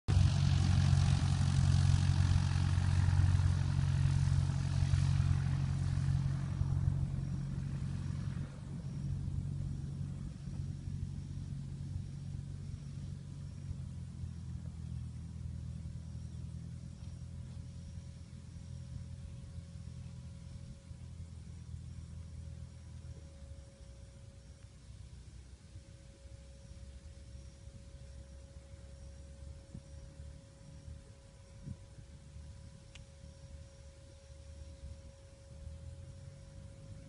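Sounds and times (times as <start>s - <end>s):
light aircraft engine and propeller: 0.1s - 37.0s.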